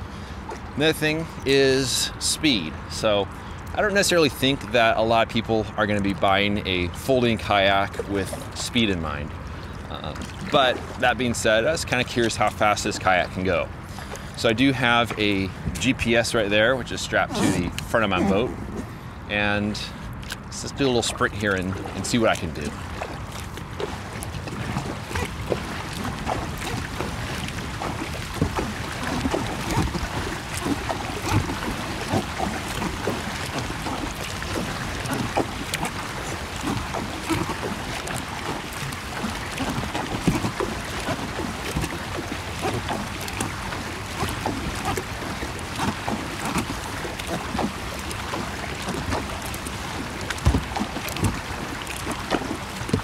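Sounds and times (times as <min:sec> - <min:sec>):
paddle strokes splashing: 0:00.0 - 0:53.0
water rushing along hull: 0:00.0 - 0:53.0.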